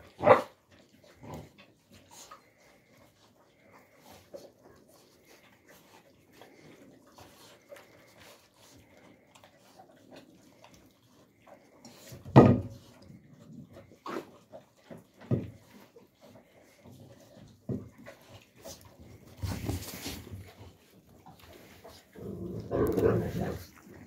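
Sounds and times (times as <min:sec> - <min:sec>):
puppies chewing and lapping: 0:00.0 - 0:24.0.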